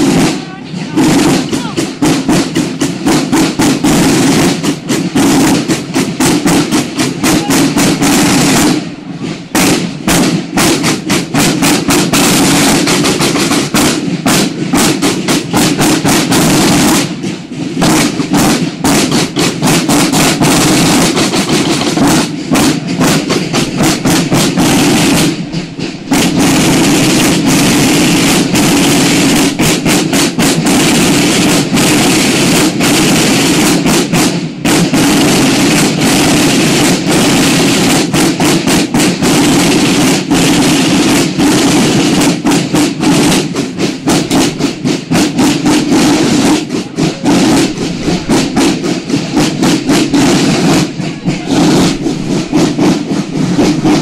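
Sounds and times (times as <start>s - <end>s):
marching side drums: 0.0s - 54.0s.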